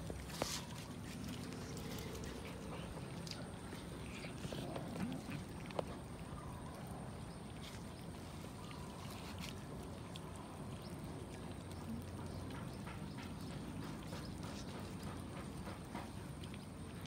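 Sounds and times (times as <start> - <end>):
cats chewing and smacking: 0.0 - 17.0.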